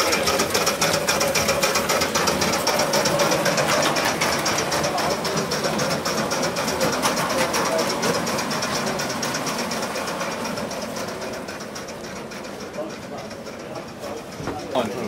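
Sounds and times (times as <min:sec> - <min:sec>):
model steam locomotive exhaust beats: 0:00.0 - 0:15.0.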